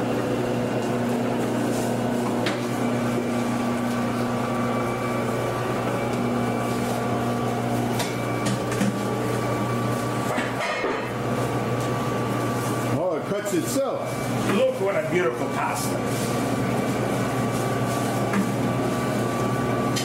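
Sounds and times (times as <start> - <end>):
pasta machine motor hum and whine: 0.0 - 20.0.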